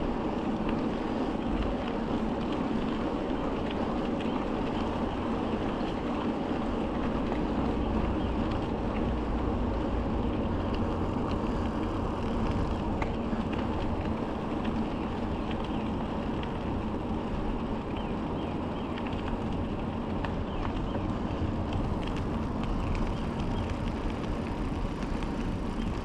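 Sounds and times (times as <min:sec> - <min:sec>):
bicycle tyres rolling on gravel: 0:00.0 - 0:26.0
wind on microphone: 0:00.0 - 0:26.0
small ticks: 0:00.5 - 0:26.0.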